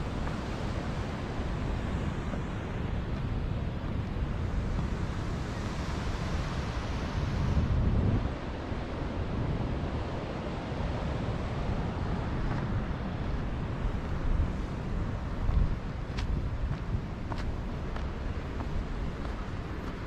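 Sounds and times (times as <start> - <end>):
surf washing: 0.0 - 20.0
wind buffeting microphone: 0.0 - 20.0.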